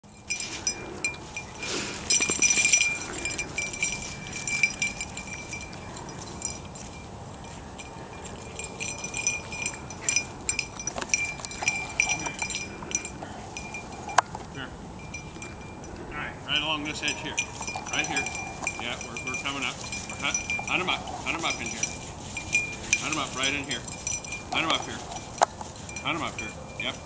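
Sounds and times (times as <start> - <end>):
small bell jingling: 0.0 - 27.0
rustling: 0.1 - 27.0.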